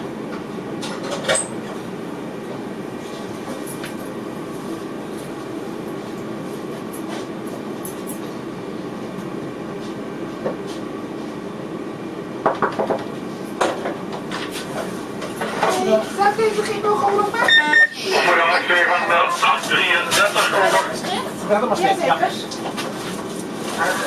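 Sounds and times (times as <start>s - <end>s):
train cab hum: 0.0s - 12.4s, 13.0s - 24.0s.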